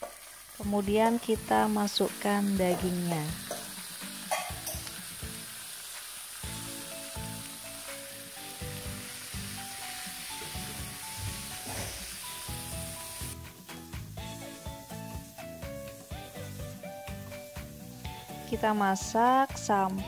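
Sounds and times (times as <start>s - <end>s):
meat sizzling in frying pan: 0.0s - 20.0s
background music: 0.6s - 20.0s.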